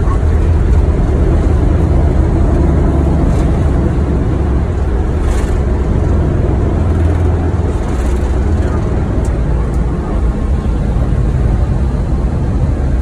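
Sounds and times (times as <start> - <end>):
aircraft engine noise: 0.0 - 13.0
wheels rumbling on runway: 0.0 - 13.0.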